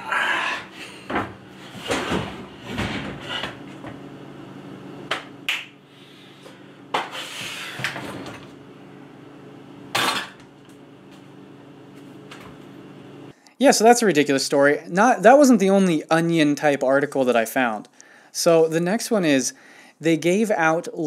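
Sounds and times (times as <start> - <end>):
steady low hum: 0.0 - 20.2.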